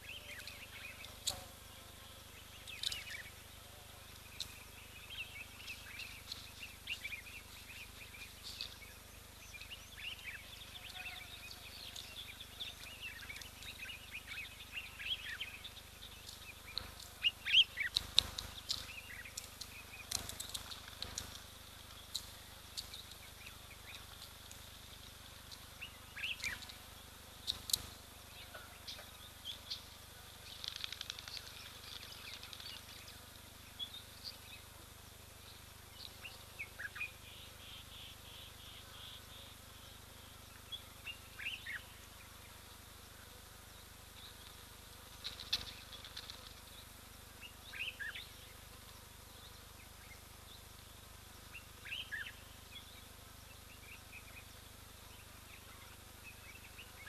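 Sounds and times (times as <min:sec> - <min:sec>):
faint steady hiss: 0:00.0 - 0:57.0
wild birds chirping and whistling: 0:00.0 - 0:57.0.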